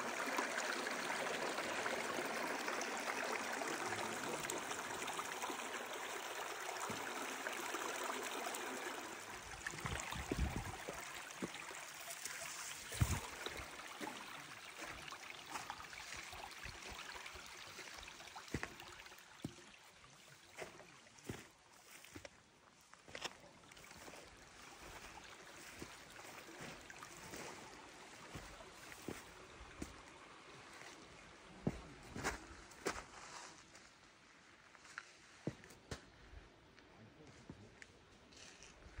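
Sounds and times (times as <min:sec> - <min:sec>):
stream gurgling over rocks: 0:00.0 - 0:32.4.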